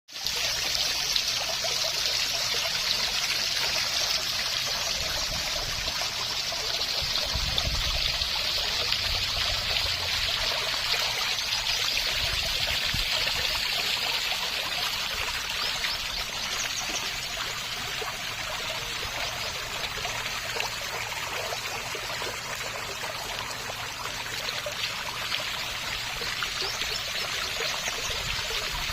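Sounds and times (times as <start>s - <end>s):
stream water trickling: 0.1s - 28.9s.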